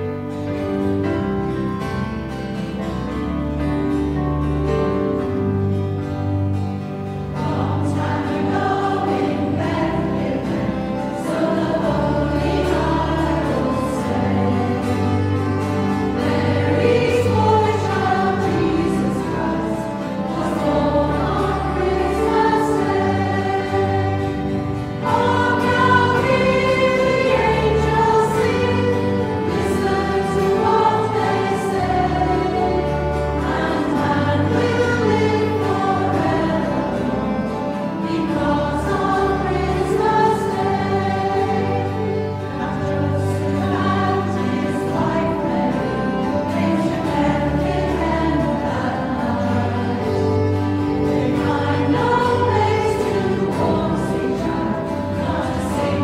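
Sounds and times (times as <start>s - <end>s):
choir singing a carol: 0.0s - 56.0s
instrumental accompaniment: 0.0s - 56.0s.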